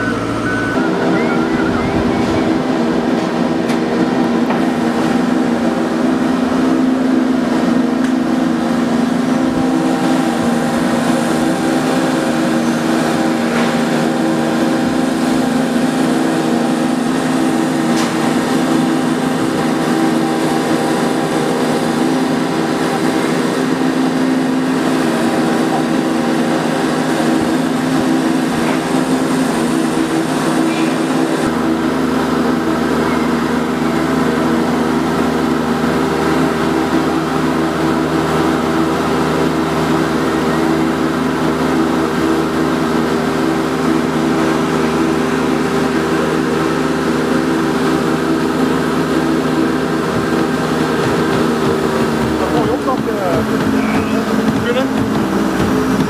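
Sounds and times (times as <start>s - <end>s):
boat lift engine humming: 0.0s - 56.0s.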